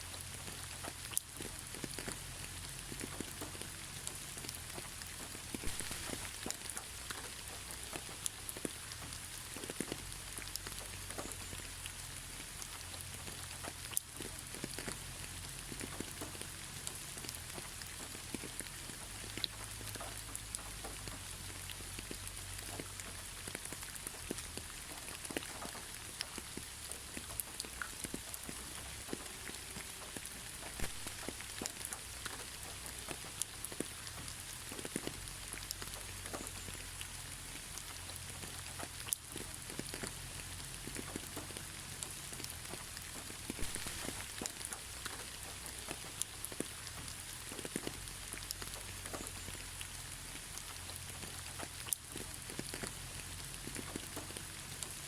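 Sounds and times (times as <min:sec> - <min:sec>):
rain falling: 0:00.0 - 0:55.0
raindrops ticking on surface: 0:00.0 - 0:55.0.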